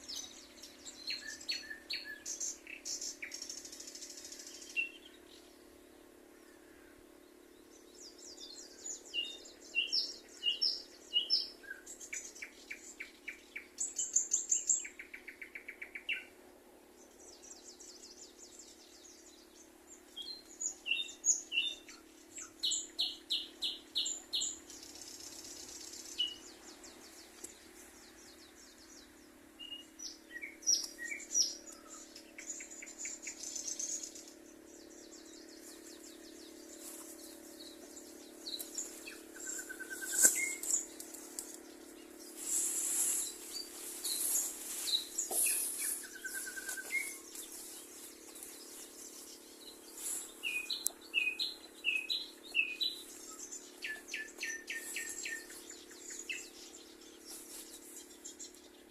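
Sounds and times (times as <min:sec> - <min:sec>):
faint low hum: 0:00.0 - 0:58.9
songbirds chirping and trilling: 0:00.0 - 0:58.9.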